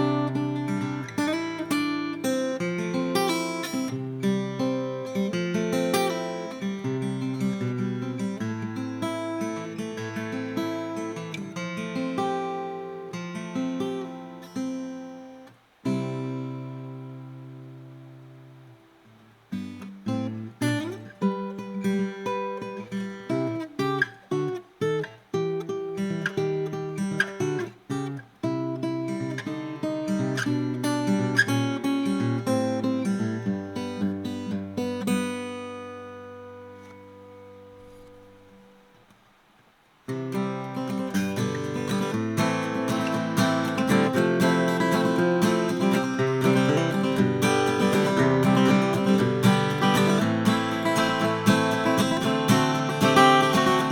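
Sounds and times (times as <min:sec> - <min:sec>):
acoustic guitar picking: 0:00.0 - 0:53.9
acoustic guitar strumming: 0:00.0 - 0:53.9.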